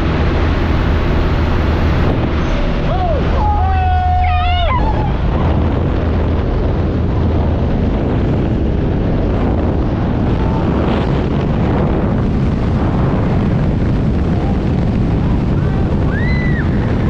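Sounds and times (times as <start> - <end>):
propeller plane engine drone: 0.0 - 17.0
wind buffeting microphone: 0.0 - 17.0.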